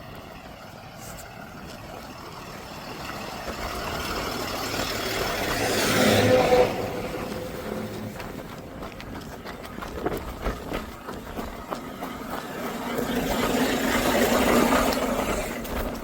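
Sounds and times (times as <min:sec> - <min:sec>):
road vehicle passing by: 0:00.0 - 0:16.0.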